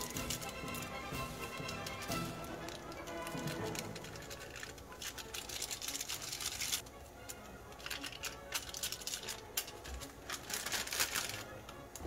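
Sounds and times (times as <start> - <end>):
seasoning packet crinkling: 1.5 - 11.8.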